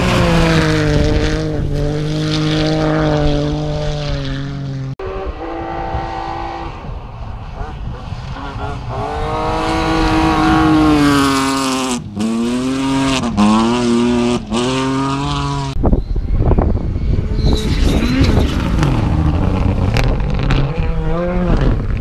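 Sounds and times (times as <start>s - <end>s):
rally car engine accelerating: 0.0s - 15.8s, 17.0s - 22.0s
faint rally car engine: 0.0s - 22.0s.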